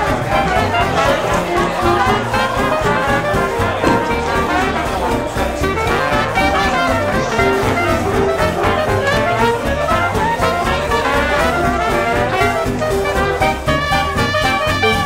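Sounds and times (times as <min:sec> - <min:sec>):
upbeat jazz with brass horns: 0:00.0 - 0:15.0.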